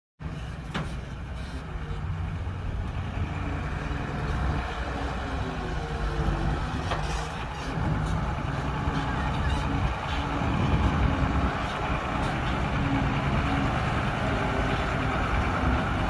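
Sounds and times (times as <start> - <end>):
diesel engine running: 0.2 - 16.0.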